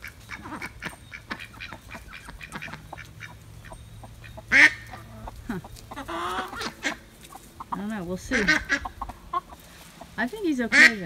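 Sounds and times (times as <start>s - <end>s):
poultry loud harsh call: 0.0s - 11.0s
poultry soft calls: 0.0s - 11.0s.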